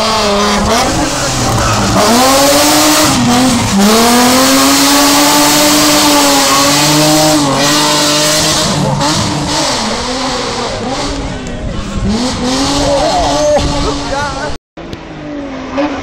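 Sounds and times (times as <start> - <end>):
car engine revving hard: 0.0 - 14.5.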